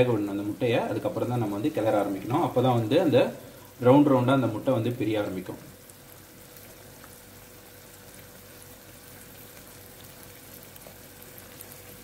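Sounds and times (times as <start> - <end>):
eggs sizzling in a pan: 0.0 - 12.0
faint steady hum: 0.0 - 12.0.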